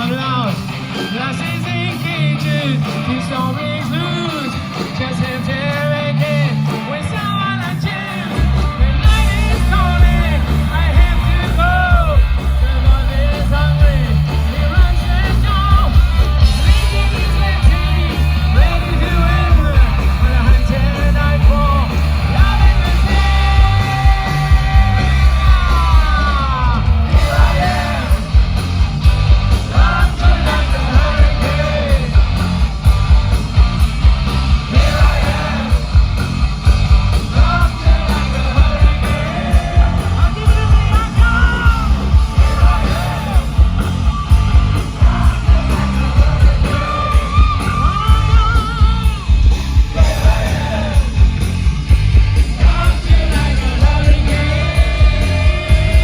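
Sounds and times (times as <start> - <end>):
bass guitar: 0.0 - 56.0
drums: 0.0 - 56.0
electric guitars: 0.0 - 56.0
hard rock band playing live: 0.0 - 56.0.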